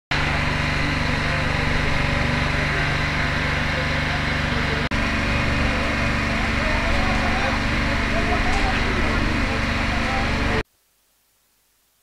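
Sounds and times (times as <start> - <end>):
small engine running: 0.1 - 10.6
faint voices: 0.2 - 10.6.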